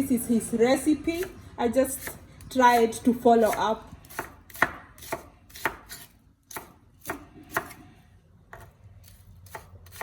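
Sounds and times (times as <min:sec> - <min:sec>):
knife chopping onions: 0:01.1 - 0:10.0.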